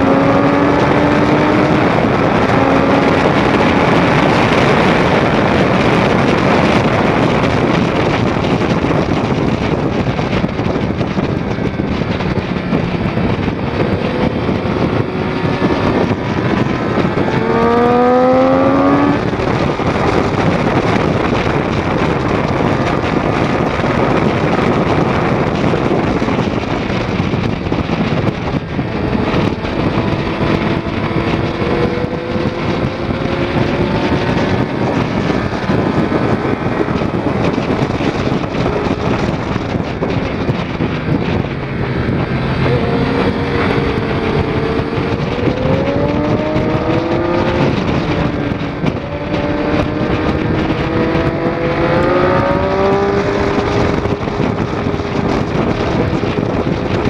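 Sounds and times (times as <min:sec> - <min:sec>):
motorcycle engine running hard: 0:00.0 - 0:57.0
wind rush on microphone: 0:00.0 - 0:57.0.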